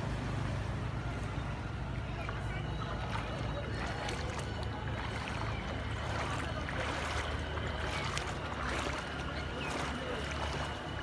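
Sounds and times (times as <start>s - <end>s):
water splashing around a boat: 0.0s - 11.0s
steady low rumble: 0.6s - 11.0s.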